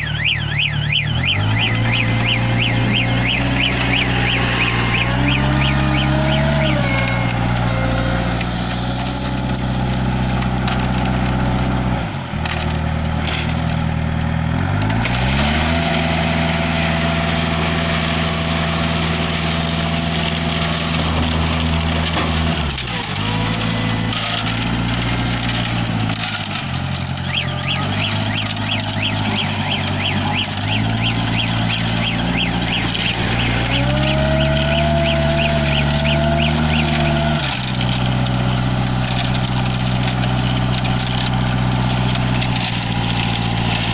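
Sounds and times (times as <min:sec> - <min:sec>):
concrete mixer engine running: 0:00.0 - 0:43.9.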